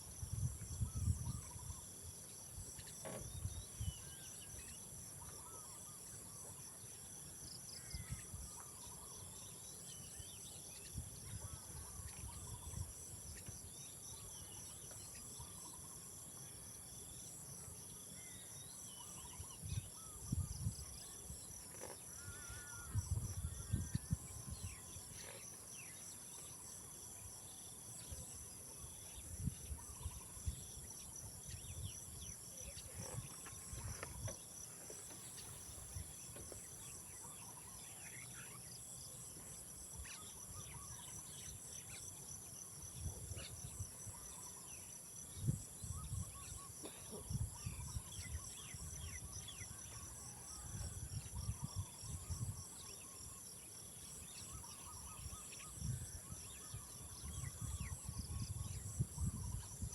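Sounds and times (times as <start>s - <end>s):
insects whining and trilling: 0.0s - 59.9s.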